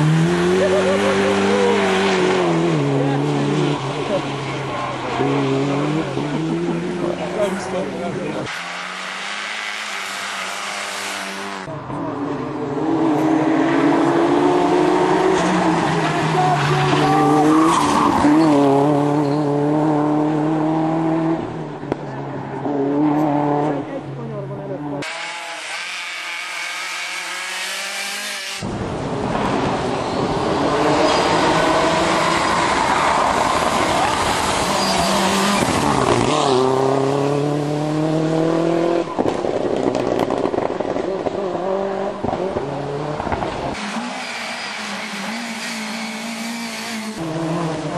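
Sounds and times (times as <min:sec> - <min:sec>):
rally car engine at high revs: 0:00.0 - 0:47.9
tyres on wet road: 0:00.0 - 0:47.9.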